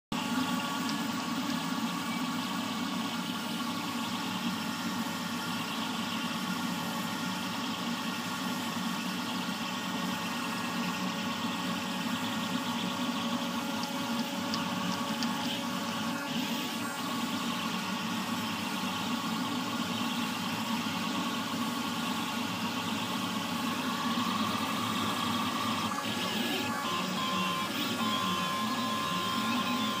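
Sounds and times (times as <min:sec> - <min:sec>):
cooling fan hum: 0:00.1 - 0:30.0
stepper motors whining: 0:00.2 - 0:30.0.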